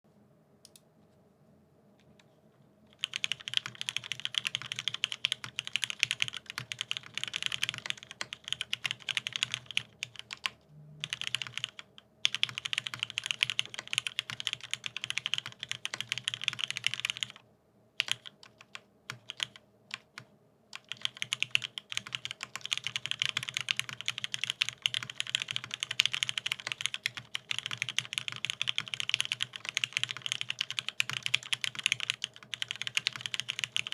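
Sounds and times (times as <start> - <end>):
typing on mechanical keyboard: 3.0 - 17.4, 18.0 - 33.9.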